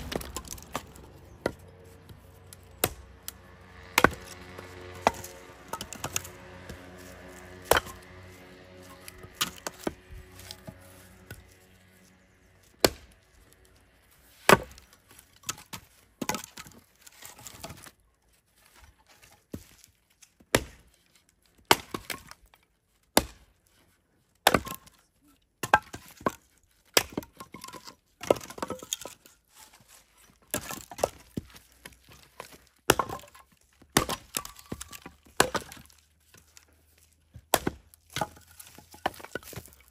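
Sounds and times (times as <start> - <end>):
axe chopping firewood: 0.0 - 11.6, 12.6 - 13.5, 14.3 - 18.0, 18.7 - 23.6, 24.4 - 39.9.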